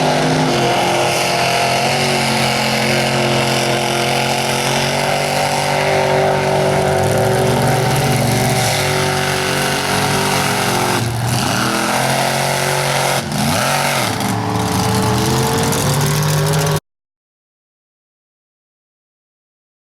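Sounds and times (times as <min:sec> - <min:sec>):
truck engine revving hard: 0:00.0 - 0:16.8.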